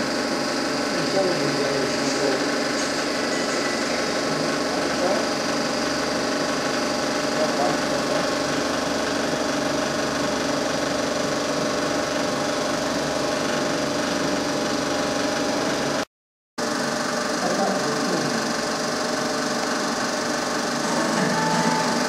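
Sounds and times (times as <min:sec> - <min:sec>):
film projector whirring: 0:00.0 - 0:16.0, 0:16.6 - 0:22.0.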